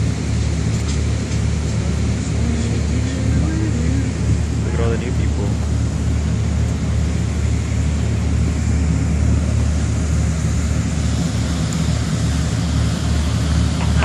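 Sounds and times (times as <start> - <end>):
boat engine rumbling: 0.0 - 14.0
wind and water hiss: 0.0 - 14.0.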